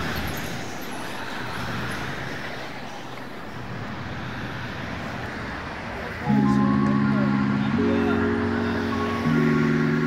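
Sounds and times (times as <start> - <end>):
road traffic hum: 0.0 - 10.0.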